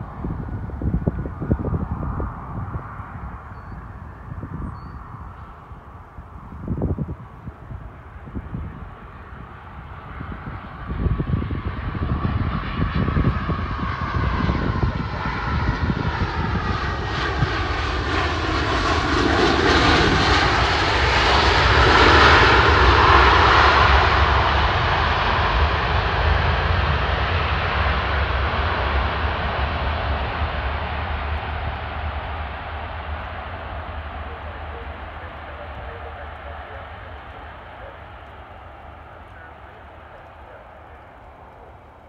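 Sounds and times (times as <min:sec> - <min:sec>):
jet airliner landing: 0:00.0 - 0:42.0
jet engine whine: 0:00.0 - 0:42.0.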